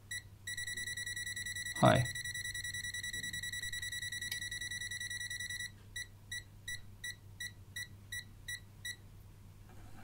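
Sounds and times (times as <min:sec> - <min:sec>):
multimeter alarm beeping: 0:00.1 - 0:09.0.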